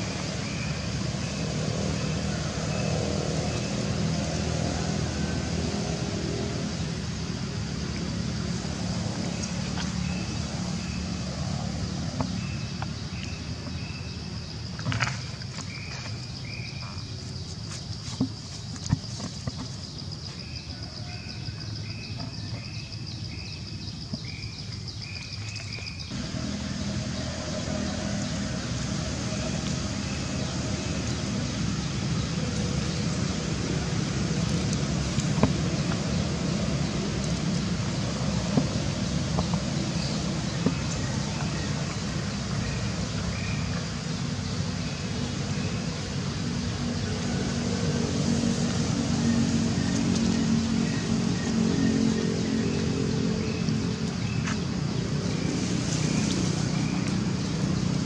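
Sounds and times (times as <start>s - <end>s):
rumbling hiss: 0.0s - 14.8s, 26.1s - 58.0s
insect trill: 0.0s - 58.0s.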